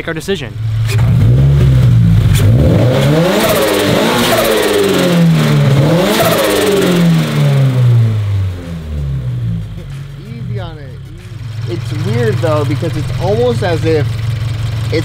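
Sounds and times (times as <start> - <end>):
car engine revving: 0.5 - 15.0
turbo surging: 0.5 - 15.0.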